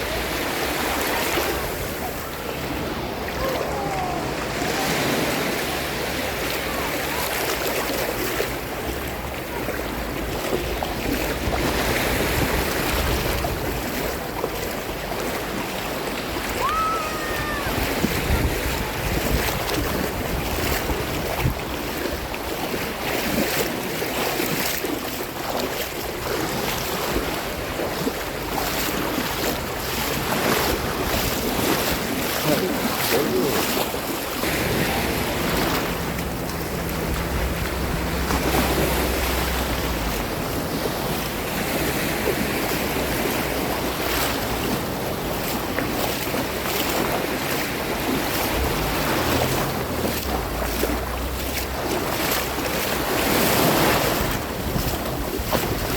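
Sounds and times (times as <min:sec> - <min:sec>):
sea waves breaking on shore: 0:00.0 - 0:55.9
wind rumbling on microphone: 0:00.0 - 0:55.9.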